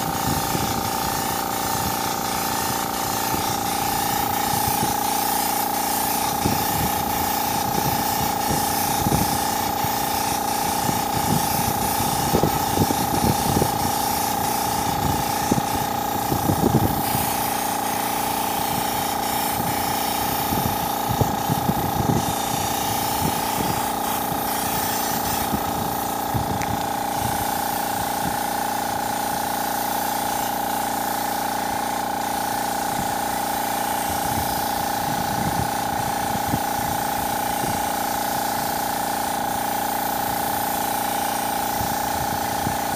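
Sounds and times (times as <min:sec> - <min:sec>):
air compressor humming: 0:00.0 - 0:42.9
spray gun hissing: 0:00.0 - 0:42.9.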